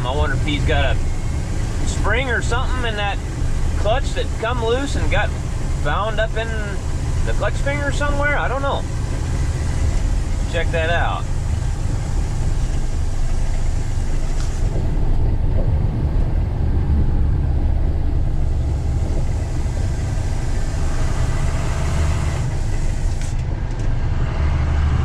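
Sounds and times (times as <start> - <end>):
engine and road rumble: 0.0 - 25.0.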